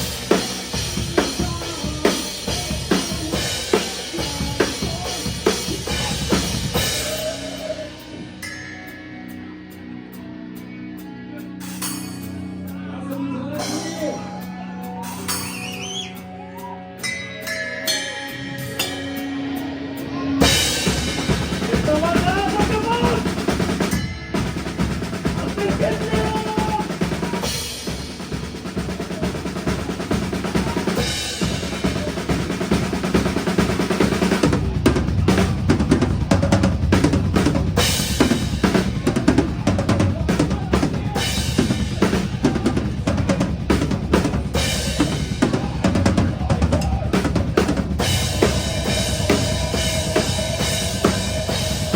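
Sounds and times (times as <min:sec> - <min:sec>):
metal band playing live: 0:00.0 - 0:51.9.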